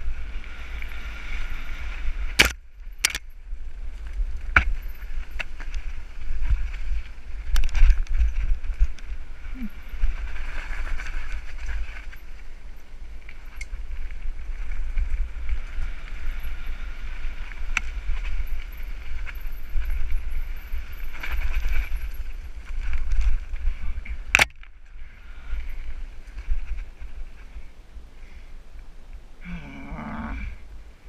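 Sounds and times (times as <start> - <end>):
bike rattle: 0.0 - 27.6.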